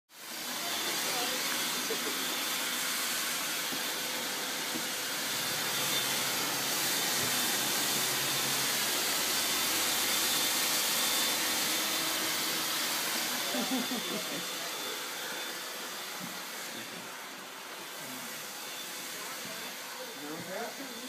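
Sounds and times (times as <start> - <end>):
electric blower rushing air: 0.1 - 21.0.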